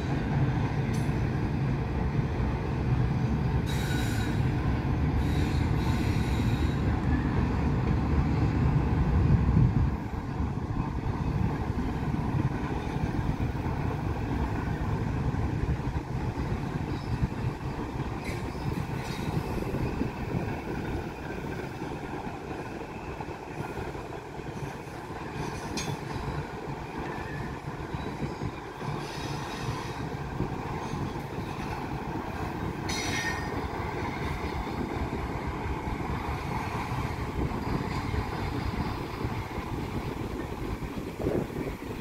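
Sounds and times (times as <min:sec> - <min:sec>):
freight train rumbling on rails: 0:00.0 - 0:42.0.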